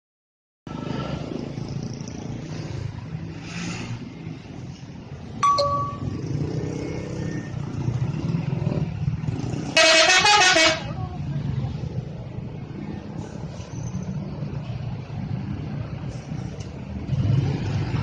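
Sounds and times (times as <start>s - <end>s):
bus diesel engines rumbling: 0.7s - 18.0s.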